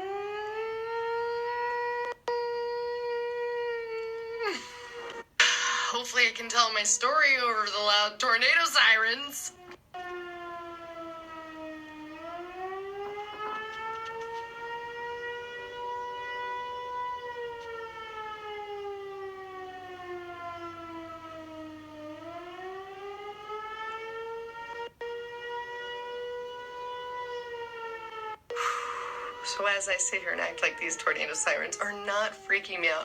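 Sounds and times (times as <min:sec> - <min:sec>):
warning siren wailing: 0:00.0 - 0:33.0.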